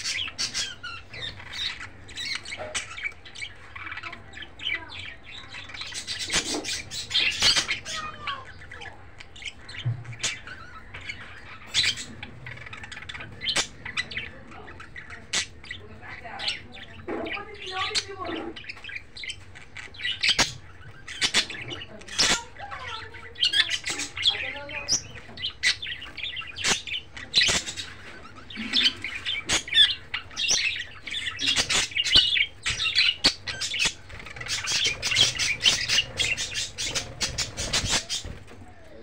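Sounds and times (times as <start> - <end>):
budgerigars chirping and warbling: 0.0 - 39.0.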